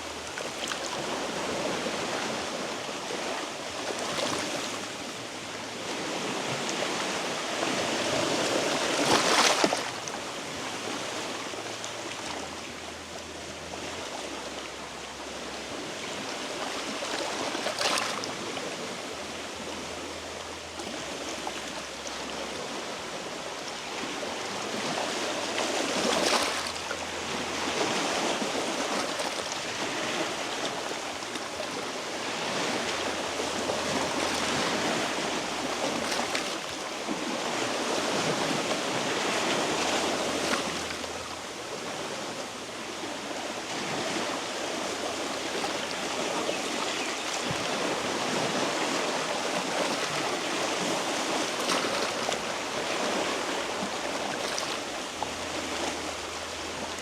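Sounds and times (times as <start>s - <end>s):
waves washing over rocks: 0.0s - 57.0s.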